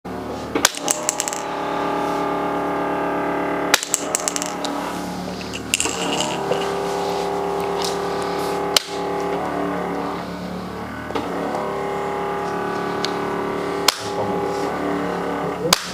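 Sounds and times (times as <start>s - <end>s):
background music with sustained chords: 0.1s - 15.9s.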